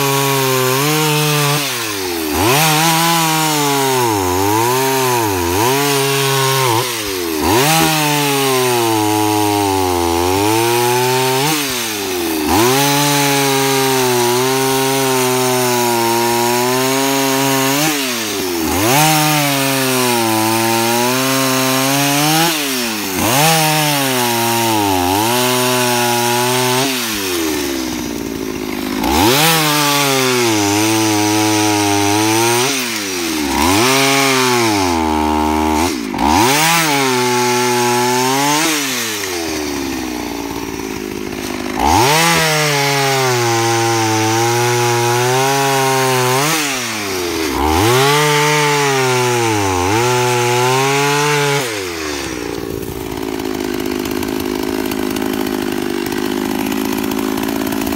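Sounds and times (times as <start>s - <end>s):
chainsaw cutting through log: 0.0s - 57.9s.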